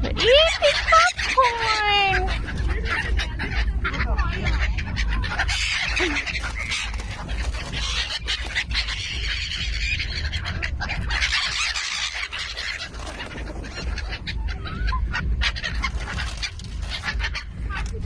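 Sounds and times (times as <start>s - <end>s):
flock of birds chattering: 0.0s - 18.0s
steady low rumble: 0.0s - 18.0s.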